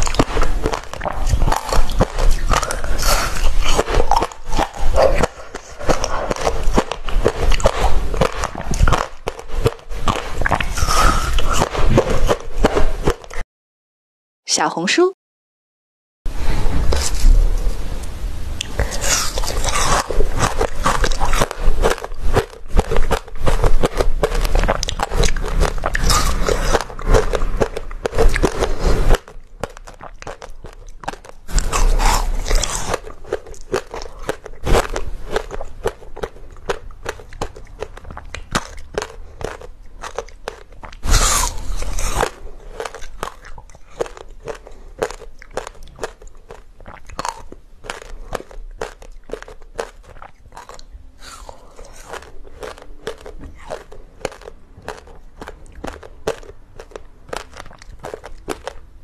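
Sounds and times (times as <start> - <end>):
crunching chews of frozen ice: 0.0 - 13.4, 18.6 - 59.0.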